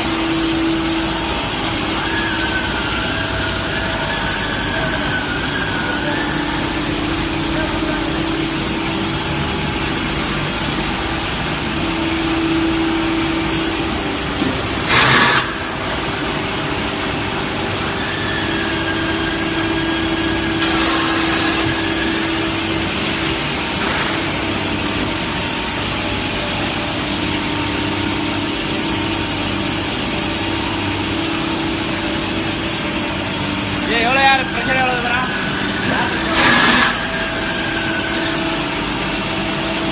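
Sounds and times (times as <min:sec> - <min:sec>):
machine mechanical hum: 0:00.0 - 0:39.9.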